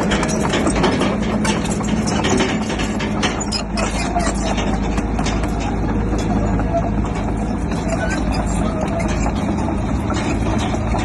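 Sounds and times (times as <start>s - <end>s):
bulldozer diesel engine running: 0.0s - 11.0s
tracks and rock clanking: 0.0s - 11.0s.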